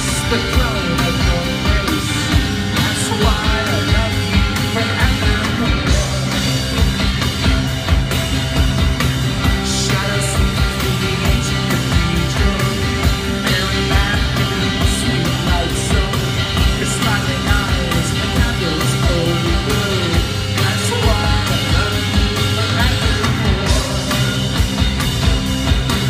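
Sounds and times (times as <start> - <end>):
distorted electric guitars: 0.0 - 26.0
steady drums: 0.0 - 26.0.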